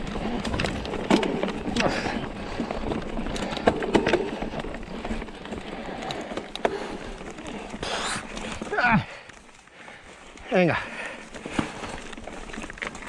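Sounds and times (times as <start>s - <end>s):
bike rattling over bumps: 0.0s - 13.0s
bike tyres rolling on gravel: 0.0s - 13.0s.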